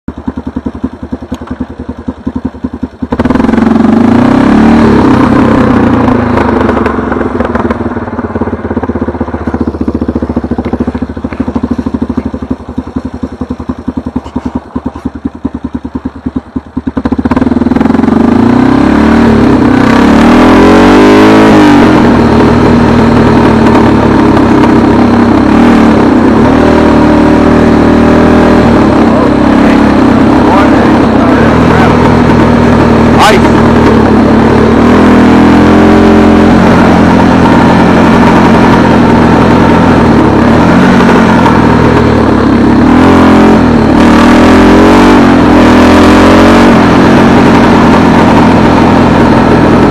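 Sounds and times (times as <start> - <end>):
motor engine revving: 0.1 - 49.9.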